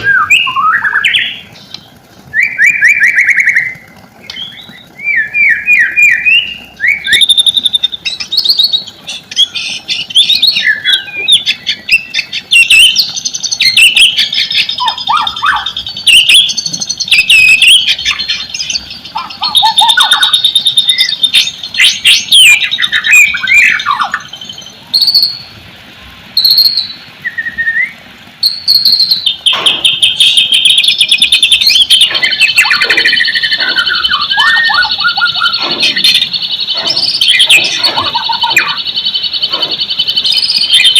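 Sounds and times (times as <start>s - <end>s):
bird singing whistles and trills: 0.0s - 25.5s, 26.4s - 40.9s.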